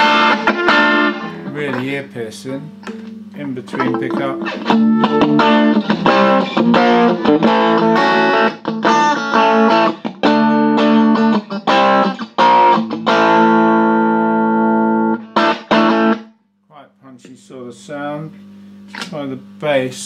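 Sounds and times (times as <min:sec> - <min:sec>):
electric guitar strummed chords: 0:00.0 - 0:16.3.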